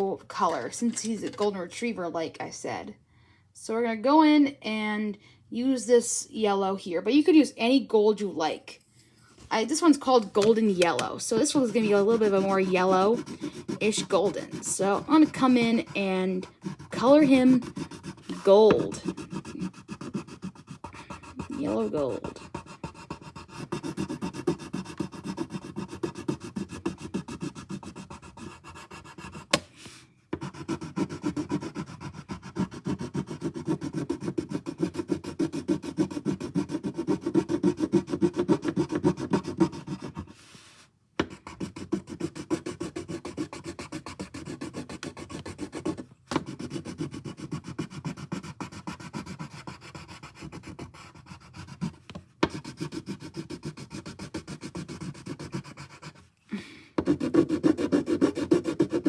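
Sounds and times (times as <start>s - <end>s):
colouring tool rubbing on paper: 9.5s - 29.6s, 30.4s - 56.3s, 57.0s - 59.0s.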